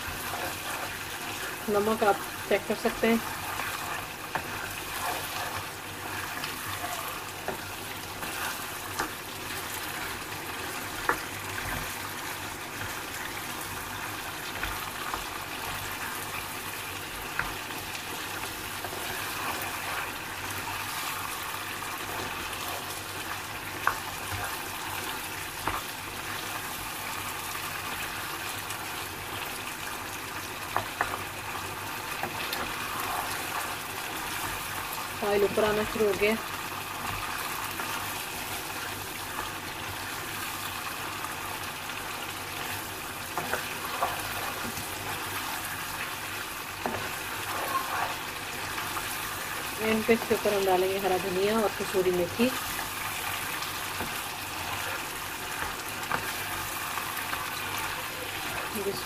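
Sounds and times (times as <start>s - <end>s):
curry sizzling in hot oil: 0.0s - 59.0s.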